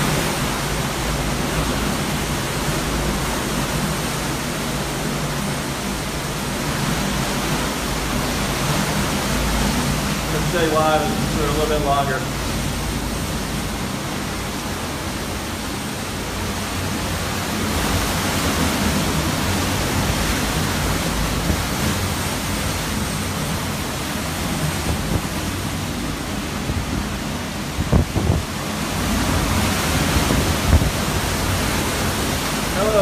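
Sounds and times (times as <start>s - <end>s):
strong wind rushing: 0.0s - 33.0s.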